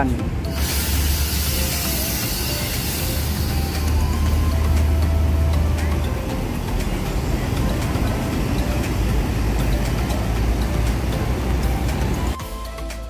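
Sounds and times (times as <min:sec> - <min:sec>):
bus diesel engine droning: 0:00.0 - 0:12.4.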